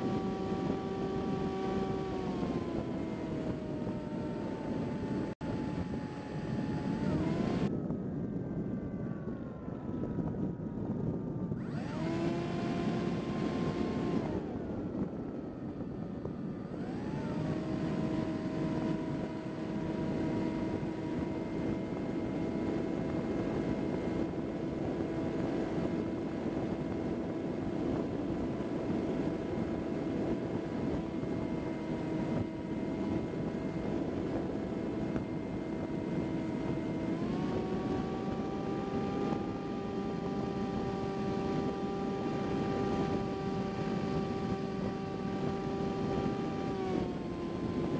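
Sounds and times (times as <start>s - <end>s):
electric motor and propeller whining: 0.0s - 47.9s.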